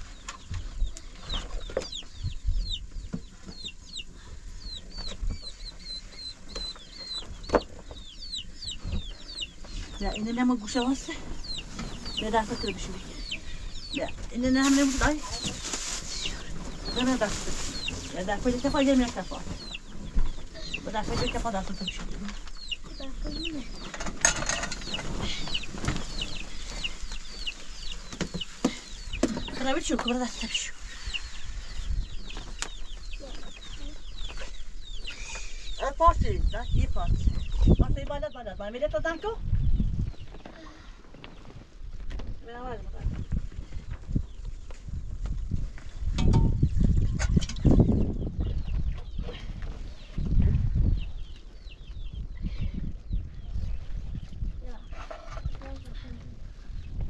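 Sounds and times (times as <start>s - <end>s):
chickens chirping: 0.0s - 41.7s, 43.2s - 55.9s.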